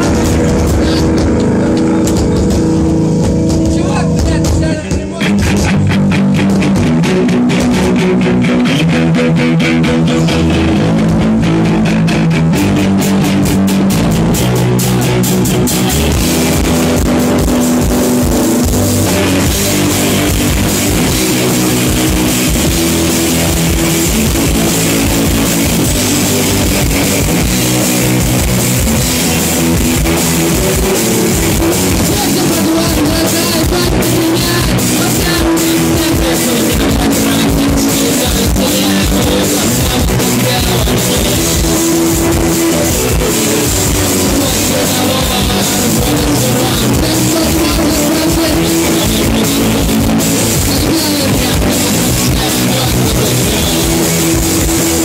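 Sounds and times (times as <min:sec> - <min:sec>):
drum kit beat: 0:00.0 - 0:55.0
electric guitar: 0:00.0 - 0:55.0
live rock band: 0:00.0 - 0:55.0.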